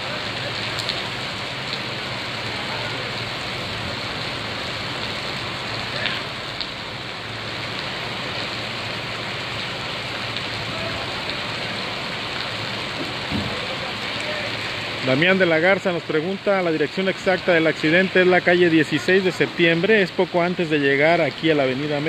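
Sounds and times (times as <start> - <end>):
rain on a wet street: 0.0 - 22.0.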